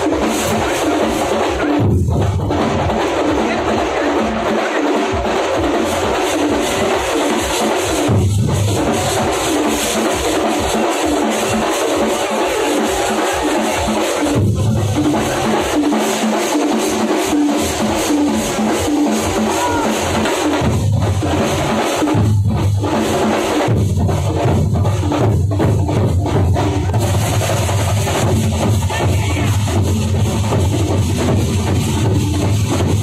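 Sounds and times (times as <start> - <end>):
percussion troupe drumming: 0.0 - 33.0
deep bass-drum strokes: 5.1 - 33.0.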